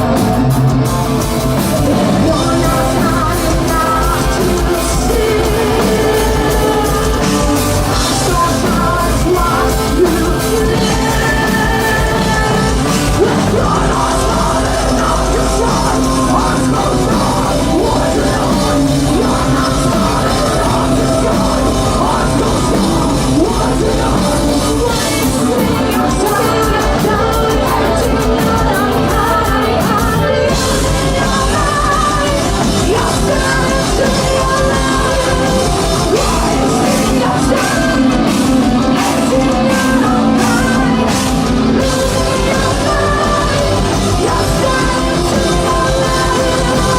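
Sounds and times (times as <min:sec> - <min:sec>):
heavy metal band playing: 0:00.0 - 0:46.9
person singing and yelling: 0:00.0 - 0:46.9.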